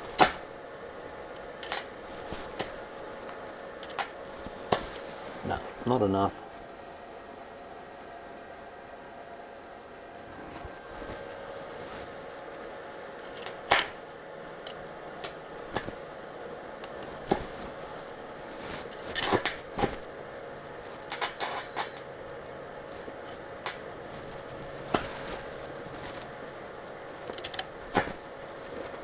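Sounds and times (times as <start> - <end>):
workshop hum: 0.0 - 29.0.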